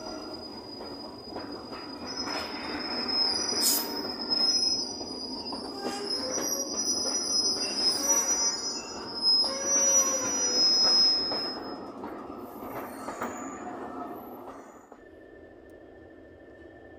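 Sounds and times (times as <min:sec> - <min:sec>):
low rumble of rolling train: 0:00.0 - 0:16.9
train wheels squealing on rails: 0:00.0 - 0:16.9.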